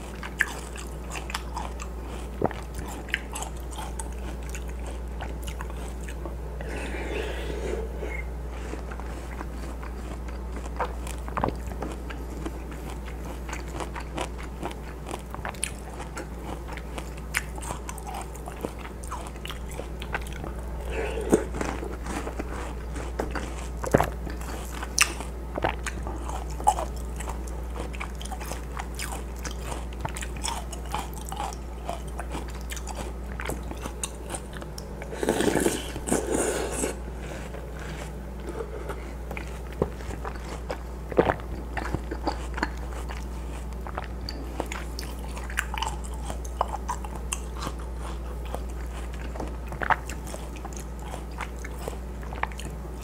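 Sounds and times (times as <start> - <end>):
chewing and crunching: 0.0 - 53.0
steady low hum: 0.0 - 53.0.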